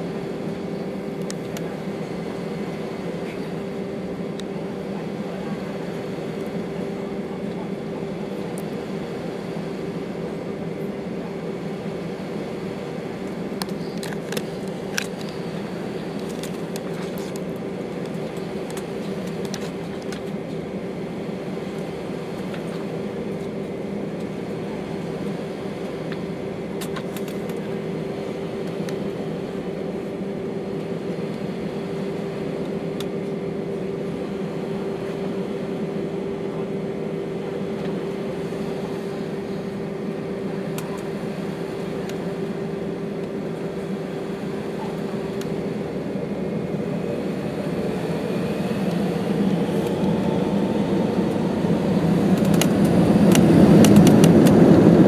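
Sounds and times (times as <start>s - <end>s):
aircraft engines humming at idle: 0.0s - 55.0s.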